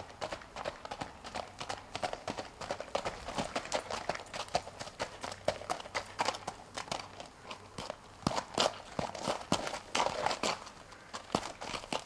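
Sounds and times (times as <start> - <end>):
horse hooves on gravel: 0.0 - 12.0.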